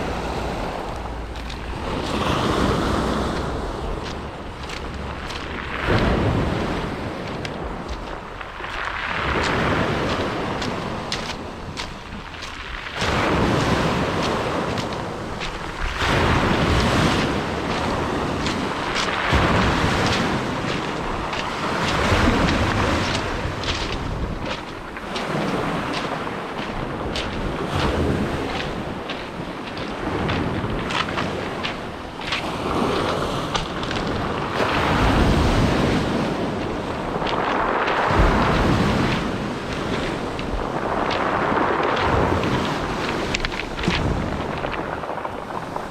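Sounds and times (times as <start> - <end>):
sea waves washing ashore: 0.0 - 45.9
wind buffeting microphone: 0.0 - 45.9.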